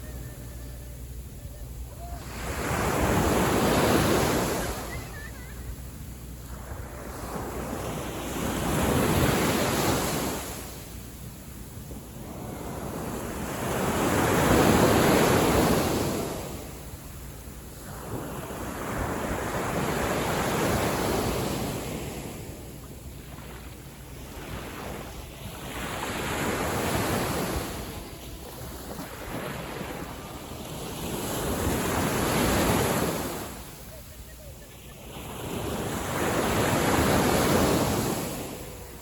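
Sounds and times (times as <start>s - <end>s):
sea waves washing onto beach: 0.0s - 39.0s.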